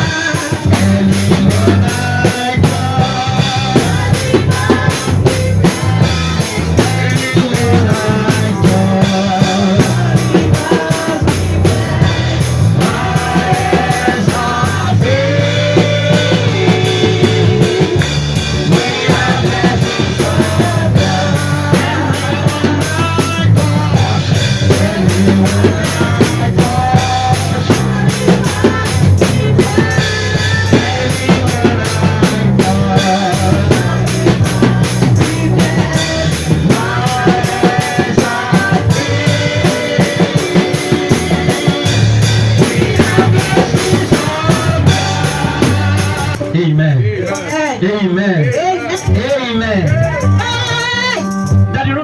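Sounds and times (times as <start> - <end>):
drum kit beat: 0.0 - 52.0
guitar: 0.0 - 52.0
praise band playing: 0.0 - 52.0.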